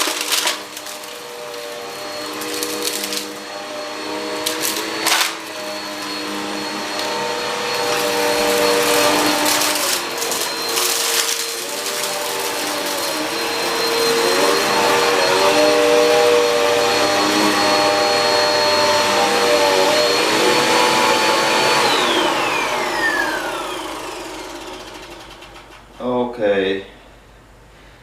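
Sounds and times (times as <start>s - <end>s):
vacuum cleaner motor whine: 0.0s - 25.9s.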